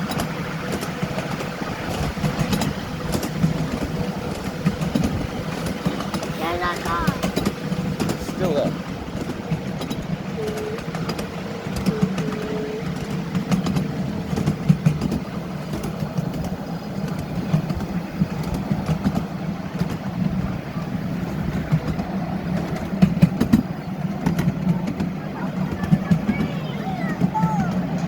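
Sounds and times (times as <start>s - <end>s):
miniature train running: 0.0s - 28.0s.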